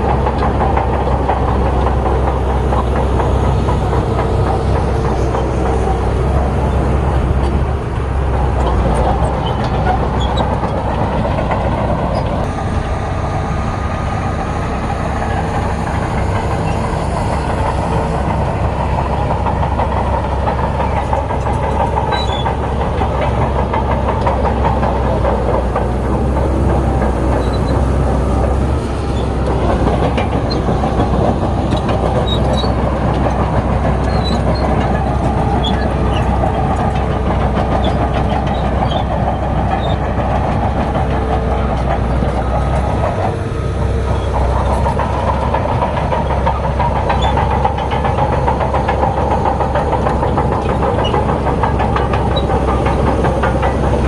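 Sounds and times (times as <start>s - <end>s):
bulldozer diesel engine running: 0.0s - 54.0s
dense clatter: 0.1s - 54.0s.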